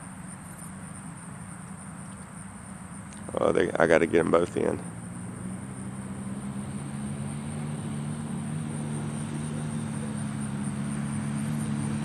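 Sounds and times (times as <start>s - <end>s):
distant dirt bike engines: 0.0s - 12.0s.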